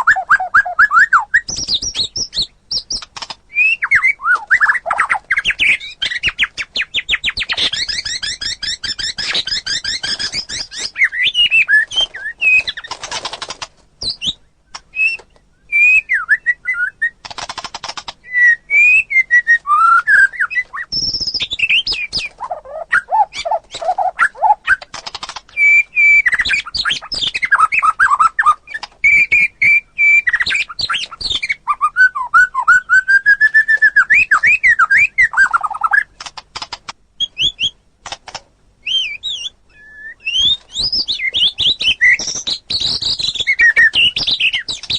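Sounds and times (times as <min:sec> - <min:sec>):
songbird singing varied song: 0:00.0 - 0:12.9, 0:14.0 - 0:17.2, 0:18.2 - 0:36.3, 0:37.2 - 0:37.8, 0:38.8 - 0:44.9.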